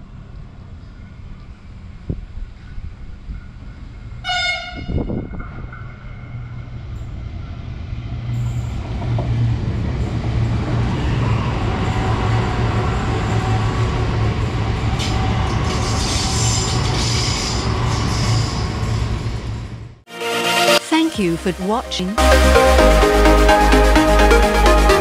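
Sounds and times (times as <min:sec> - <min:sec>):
electric train humming on rails: 0:00.0 - 0:25.0.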